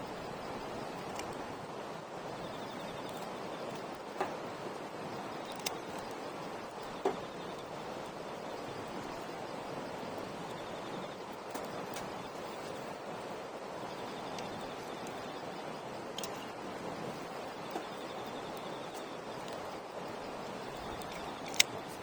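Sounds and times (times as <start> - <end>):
campfire hissing and crackling: 0.0 - 22.0
high insect trill: 2.3 - 22.0.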